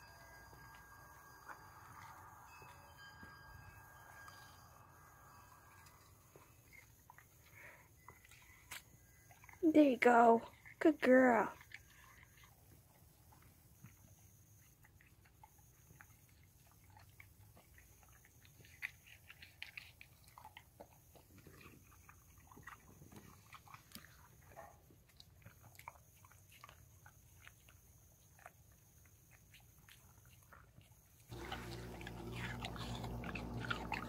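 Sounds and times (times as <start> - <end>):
dog chewing: 0.0 - 34.0.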